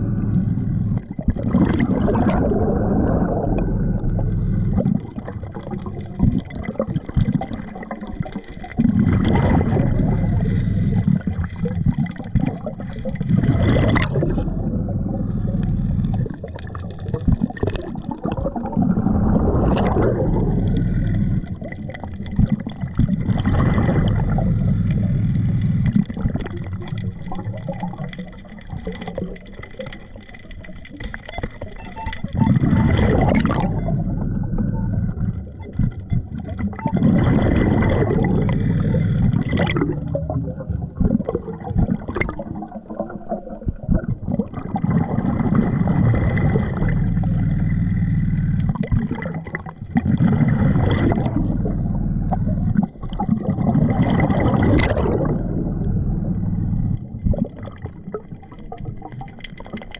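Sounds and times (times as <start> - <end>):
gurgling exhaled bubbles: 0.0 - 59.9.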